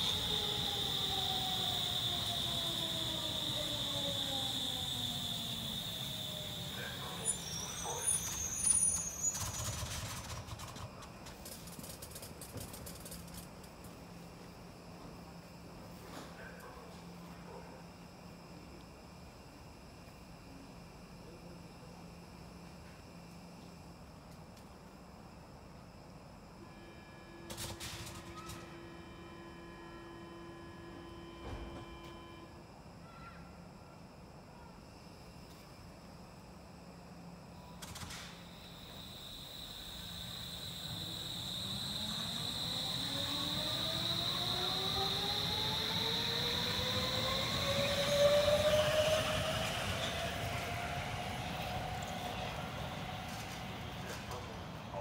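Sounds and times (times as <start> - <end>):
train electrical hum: 0.0 - 55.0.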